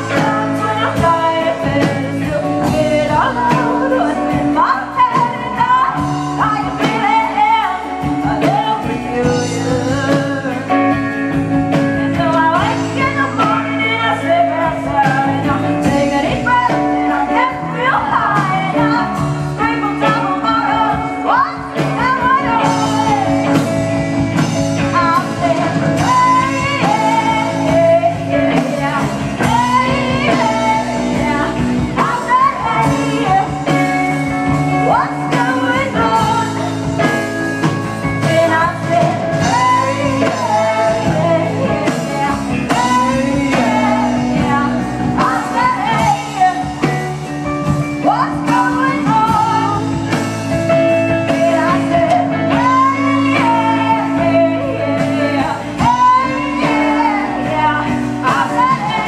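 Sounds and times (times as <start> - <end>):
live rock band playing: 0.0 - 59.0
woman singing lead: 0.0 - 59.0.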